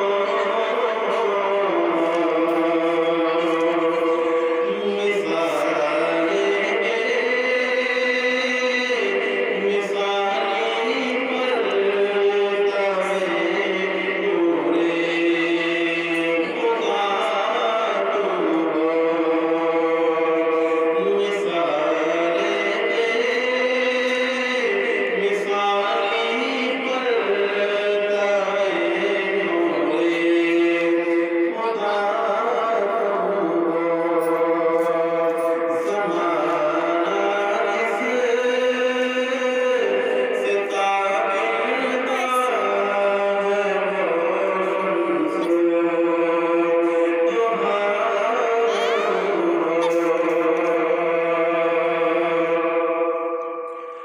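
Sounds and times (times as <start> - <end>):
man singing devotional song: 0.0 - 54.0.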